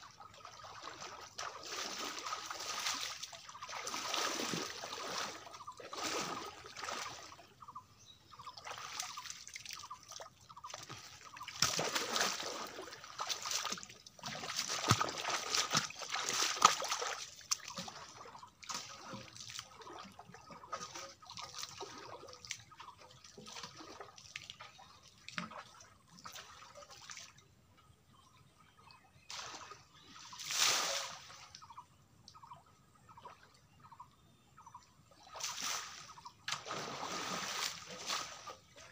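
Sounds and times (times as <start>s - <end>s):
water splashing and sloshing: 0.0s - 38.9s.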